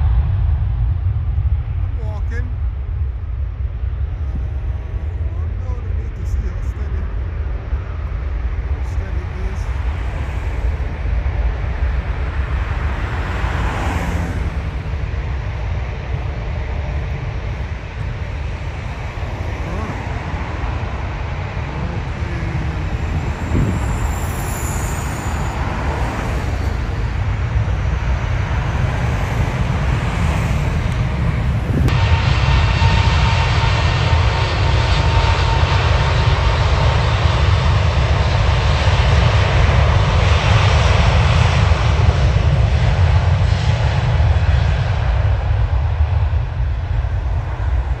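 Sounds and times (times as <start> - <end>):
cars passing: 0.0 - 48.0
jet airliners rumbling: 0.0 - 48.0
jet engines high whine: 0.0 - 48.0.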